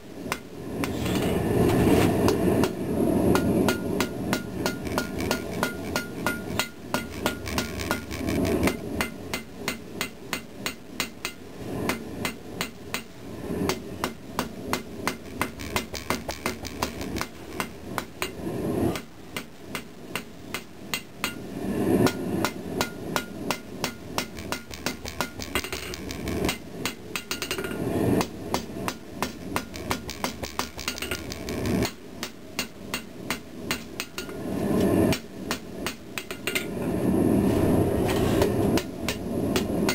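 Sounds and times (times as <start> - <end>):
hammer striking steel on anvil: 2.3 - 34.4, 35.1 - 36.7, 38.1 - 39.9.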